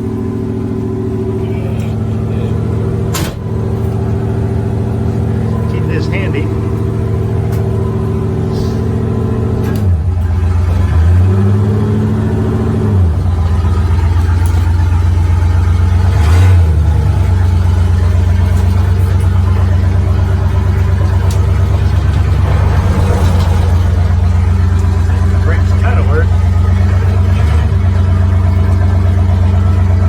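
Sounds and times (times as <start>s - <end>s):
pickup engine revving and idling: 0.0s - 30.0s.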